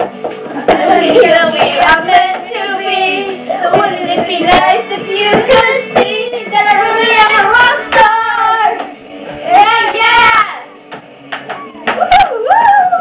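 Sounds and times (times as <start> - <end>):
children singing a pop song: 0.0 - 10.8.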